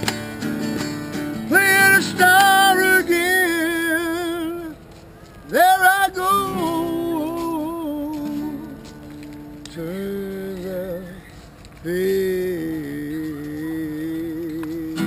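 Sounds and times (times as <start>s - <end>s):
acoustic guitar: 0.0s - 15.0s
man singing wordless notes: 1.2s - 15.0s.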